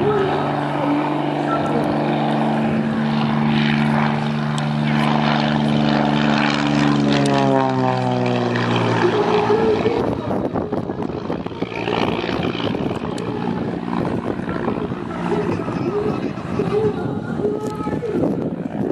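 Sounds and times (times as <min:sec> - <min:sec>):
propeller airplane passing by: 0:00.0 - 0:18.9.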